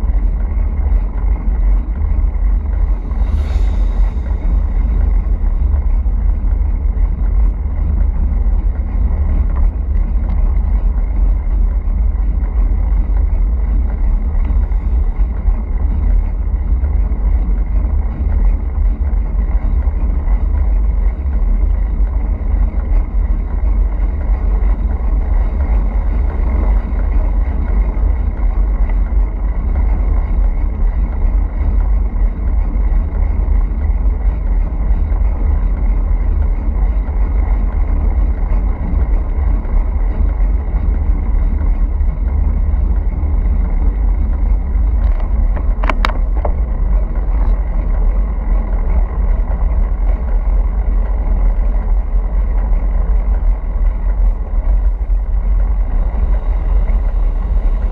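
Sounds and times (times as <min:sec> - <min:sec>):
road noise: 0:00.0 - 0:57.9
wind buffeting microphone: 0:00.0 - 0:57.9.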